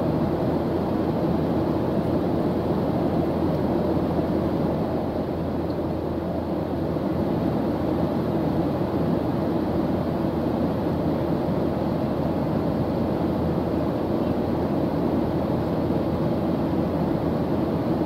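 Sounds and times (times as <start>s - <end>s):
jet cabin engine roar: 0.0s - 18.0s.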